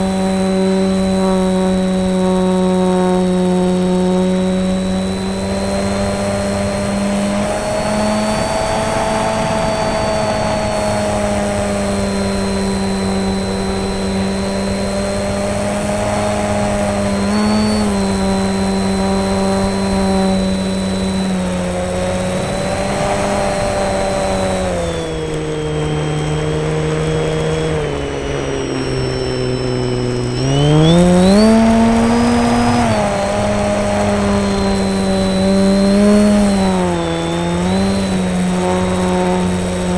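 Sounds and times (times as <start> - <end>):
rc plane motor droning: 0.0 - 39.9.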